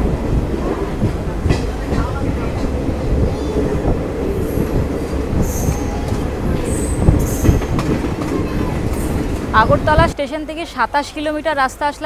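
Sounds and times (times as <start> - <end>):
train running gear rumble: 0.0 - 10.2.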